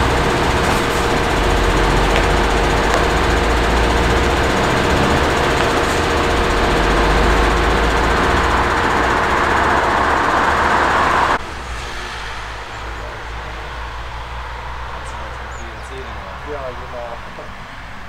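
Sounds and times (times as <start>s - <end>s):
loader diesel engine running: 0.0s - 18.0s
truck diesel engine pulling away: 0.0s - 18.0s.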